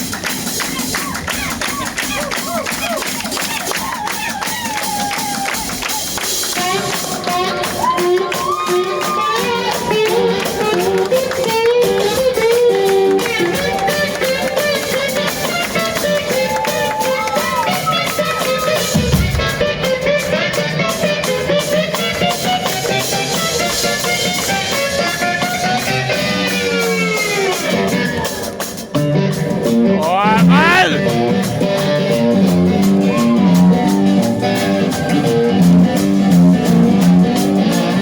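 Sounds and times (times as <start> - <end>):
drums: 0.0 - 38.0.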